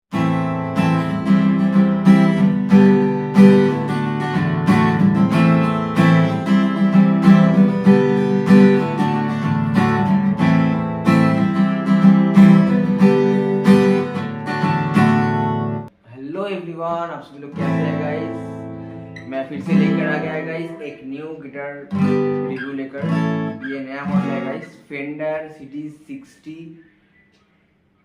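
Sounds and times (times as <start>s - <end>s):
acoustic guitar strumming: 0.1s - 15.9s, 17.4s - 25.2s.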